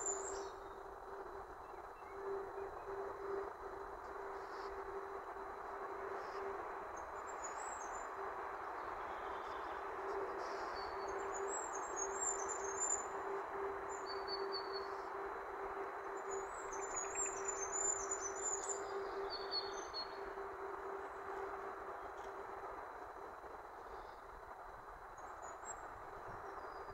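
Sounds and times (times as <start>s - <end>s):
songbirds twittering: 0.0s - 24.4s
low hum: 0.0s - 26.9s.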